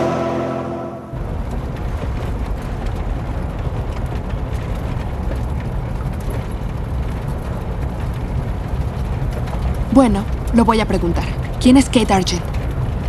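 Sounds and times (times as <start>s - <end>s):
vehicle rumble on dirt road: 1.1s - 13.0s.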